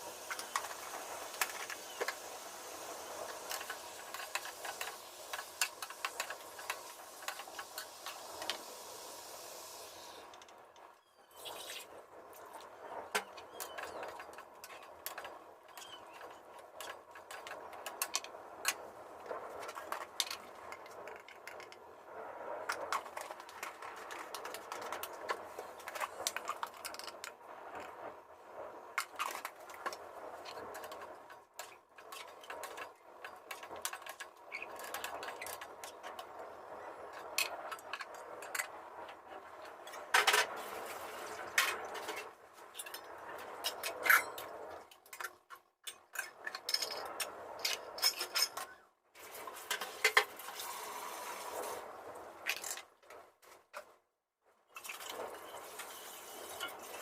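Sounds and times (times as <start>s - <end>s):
continuous hiss: 0.0s - 45.4s, 46.6s - 54.0s, 54.8s - 57.0s.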